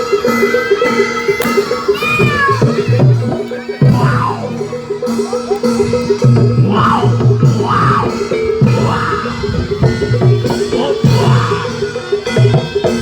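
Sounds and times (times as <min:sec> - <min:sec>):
drums beating: 0:00.0 - 0:13.0
wavering melody: 0:00.0 - 0:13.0.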